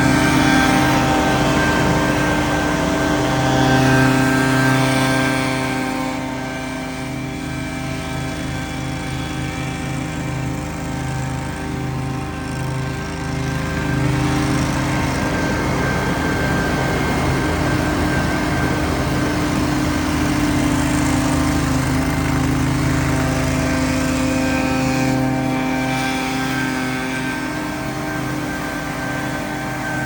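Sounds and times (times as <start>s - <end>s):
leaf blowers running: 0.0s - 30.0s.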